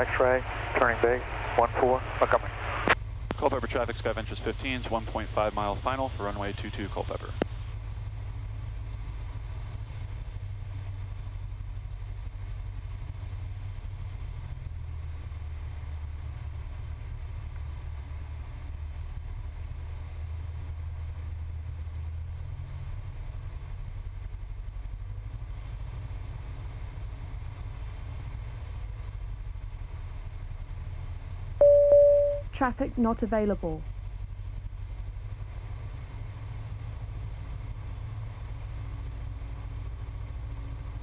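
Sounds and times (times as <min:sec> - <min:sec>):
propeller plane engine drone: 0:00.0 - 0:41.0.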